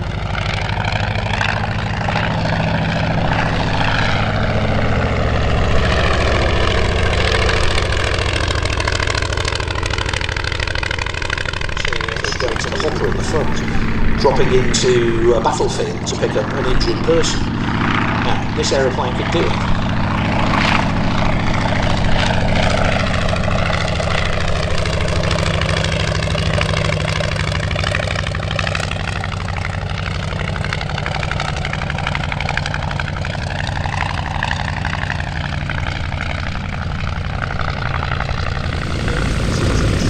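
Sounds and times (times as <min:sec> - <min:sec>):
propeller aircraft engine droning: 0:00.0 - 0:40.0.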